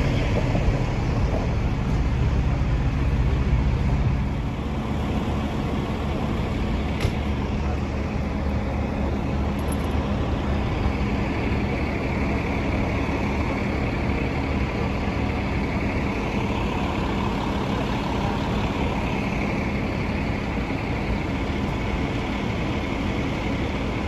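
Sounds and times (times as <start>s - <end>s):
constant low hum: 0.0s - 24.0s
engine rumble: 0.0s - 24.0s.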